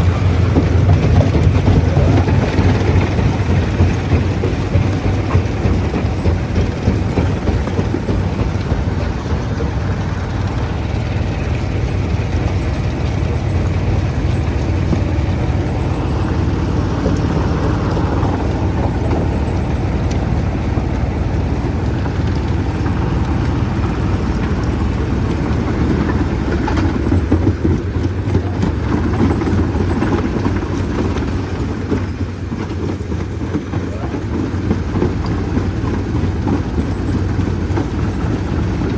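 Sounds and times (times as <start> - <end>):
stone crusher rumbling and clattering: 0.0 - 38.9.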